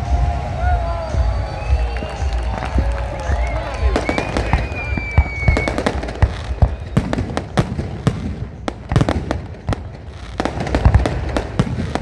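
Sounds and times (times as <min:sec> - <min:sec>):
deep fireworks booms: 0:00.0 - 0:12.0
fireworks bangs and crackles: 0:00.0 - 0:12.0.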